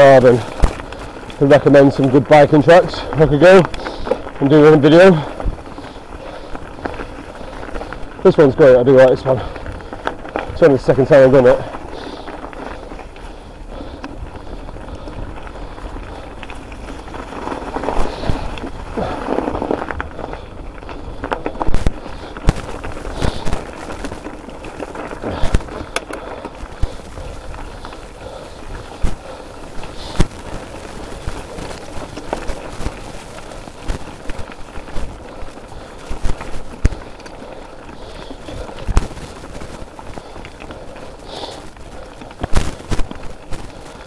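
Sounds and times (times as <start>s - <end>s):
bike knocking and rattling: 0.0s - 44.0s
tyres rumbling on stony ground: 0.0s - 44.0s.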